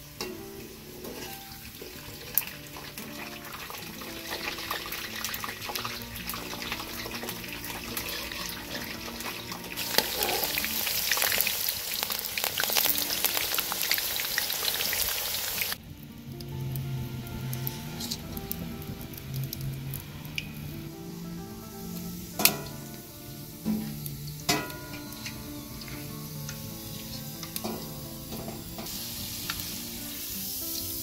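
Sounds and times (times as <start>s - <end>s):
background music with held notes: 0.0s - 31.0s
oil sizzling in a wok: 0.0s - 31.0s.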